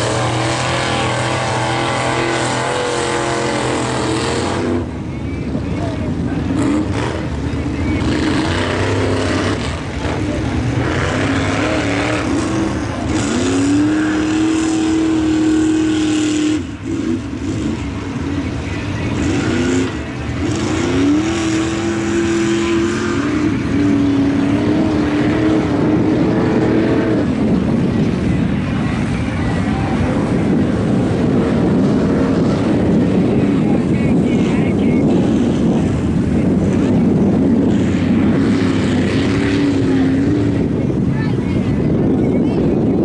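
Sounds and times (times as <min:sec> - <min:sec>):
tires churning mud and water: 0:00.0 - 0:43.0
truck engine revving: 0:00.0 - 0:43.0.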